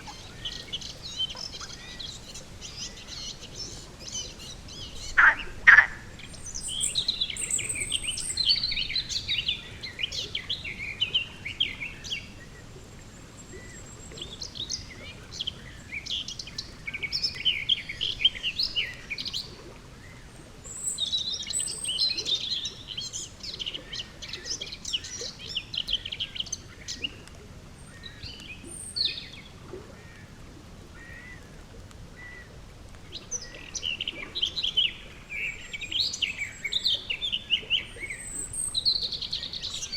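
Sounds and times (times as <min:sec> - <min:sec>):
songbirds chirping: 0:00.0 - 0:30.4, 0:31.0 - 0:39.9
faint outdoor background: 0:00.0 - 0:39.9.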